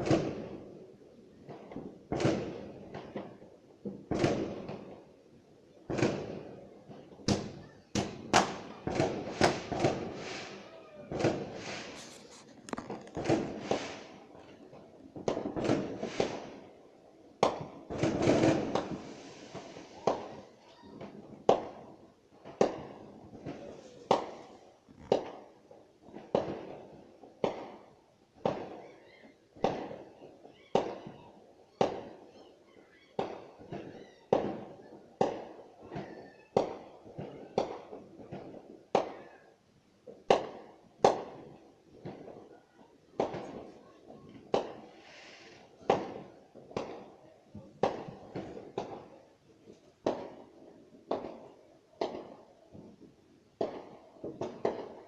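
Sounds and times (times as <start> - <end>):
fireworks bangs and crackle: 0.0 - 55.0.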